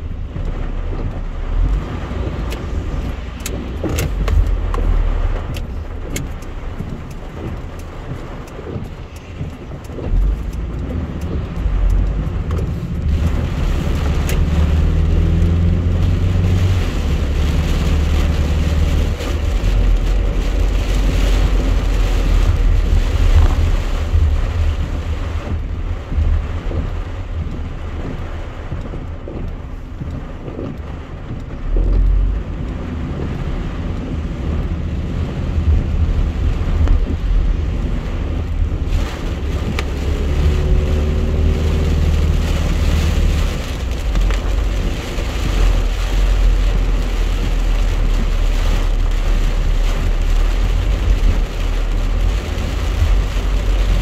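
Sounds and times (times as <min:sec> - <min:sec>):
heavy rain on car roof: 0:00.0 - 0:54.0
low engine rumble: 0:00.0 - 0:54.0
tyre noise on wet road: 0:00.0 - 0:54.0.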